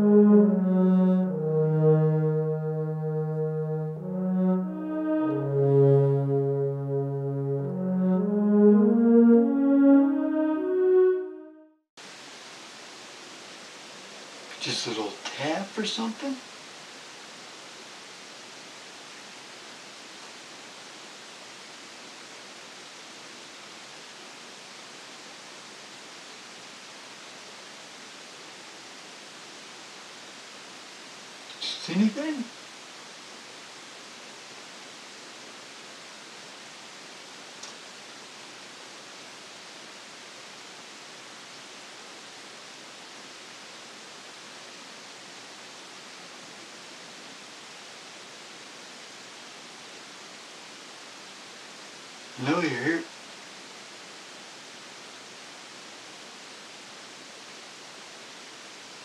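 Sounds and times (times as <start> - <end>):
room hiss: 0.0 - 59.0.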